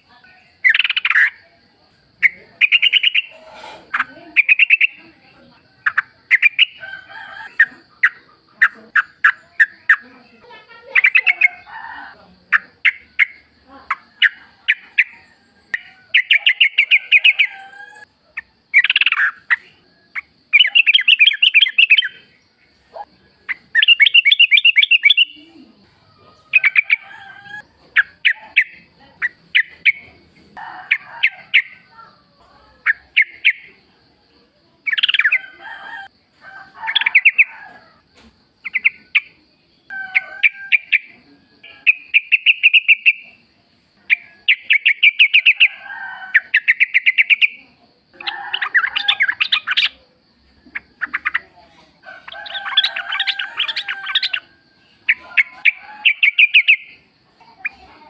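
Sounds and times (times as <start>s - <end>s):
bulbuls calling: 0.0s - 25.7s, 36.8s - 58.0s.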